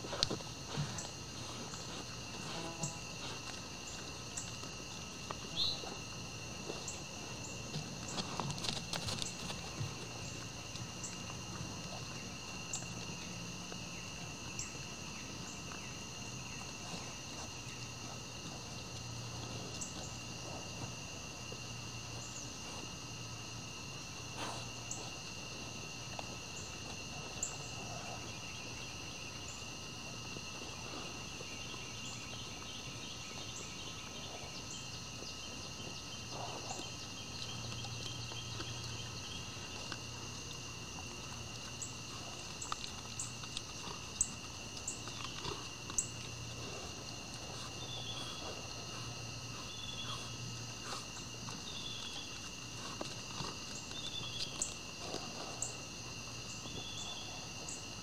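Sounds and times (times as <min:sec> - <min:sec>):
crickets and night insects trilling: 0:00.0 - 0:58.0.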